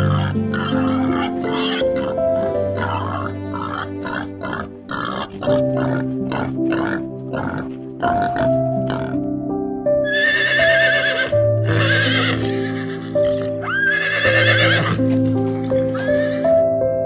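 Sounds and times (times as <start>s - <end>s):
horse neighing: 0.0s - 8.3s, 10.1s - 16.5s
background music of held notes: 0.0s - 17.0s.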